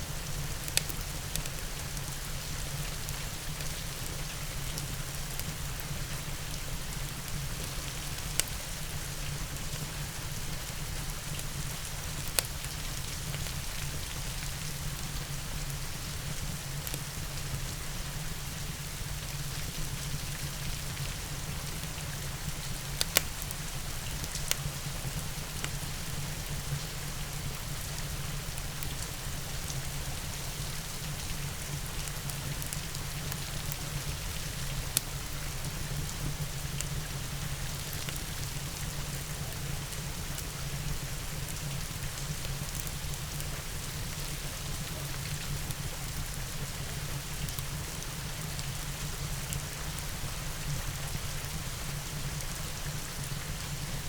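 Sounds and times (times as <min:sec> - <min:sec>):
steady rain: 0:00.0 - 0:54.0
wood fire crackles: 0:00.0 - 0:54.0.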